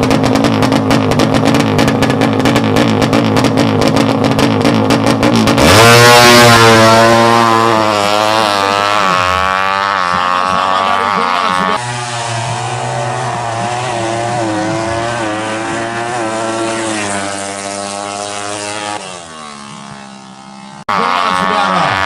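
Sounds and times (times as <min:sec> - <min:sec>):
motorbike engines revving: 0:00.0 - 0:22.0.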